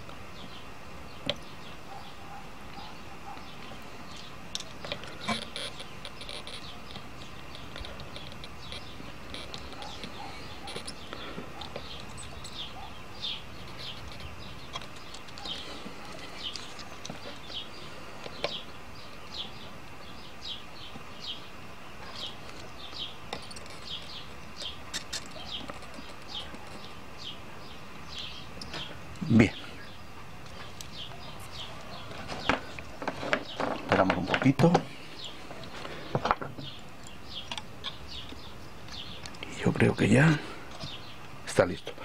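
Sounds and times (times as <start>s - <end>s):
faint steady hum: 0.0s - 42.0s
small birds chirping: 0.0s - 42.0s.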